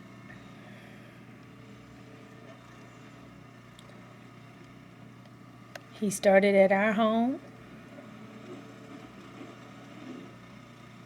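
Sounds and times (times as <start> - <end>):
faint mechanical hum: 0.0 - 11.0.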